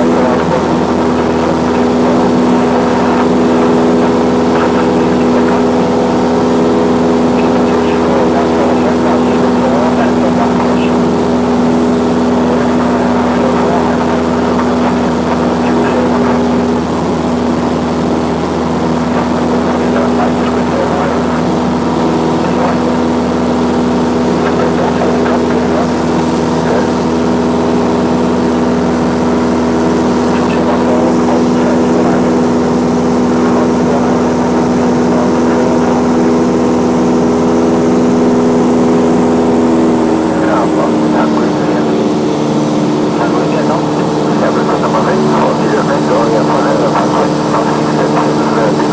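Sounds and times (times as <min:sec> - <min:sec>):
light aircraft engine droning: 0:00.0 - 0:48.9.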